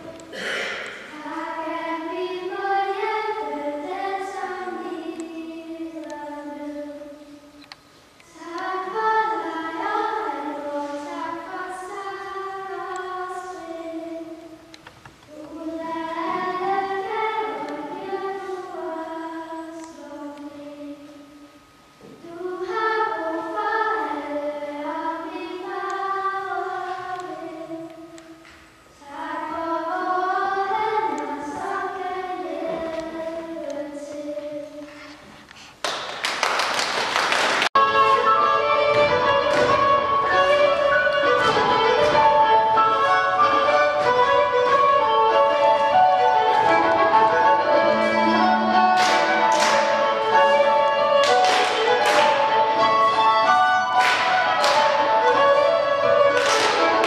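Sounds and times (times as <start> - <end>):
young voices singing: 0.0 - 35.7, 37.8 - 57.0.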